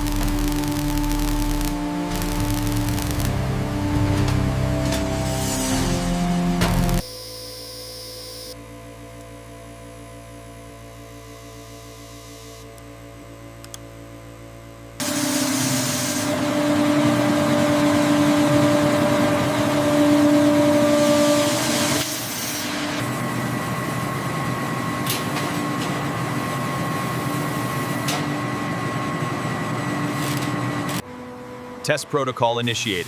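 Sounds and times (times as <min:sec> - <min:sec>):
factory machinery humming and whining: 0:00.0 - 0:33.0.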